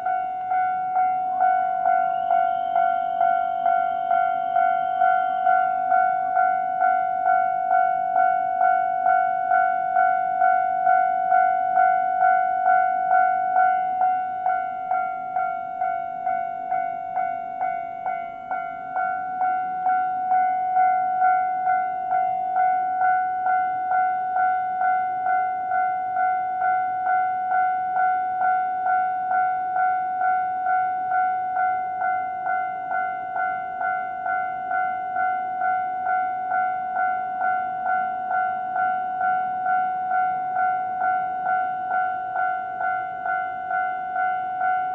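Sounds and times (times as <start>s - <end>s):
level crossing warning bell: 0.0s - 44.9s.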